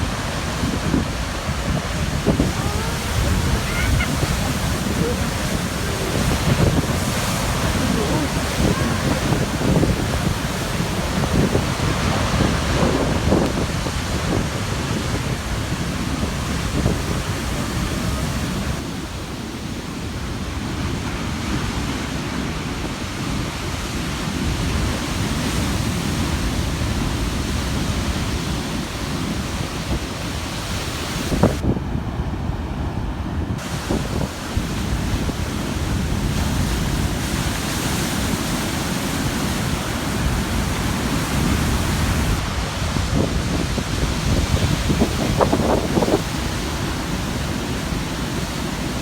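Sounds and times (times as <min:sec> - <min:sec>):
ocean waves crashing on rocks: 0:00.0 - 0:49.0
wind buffeting microphone: 0:00.0 - 0:49.0.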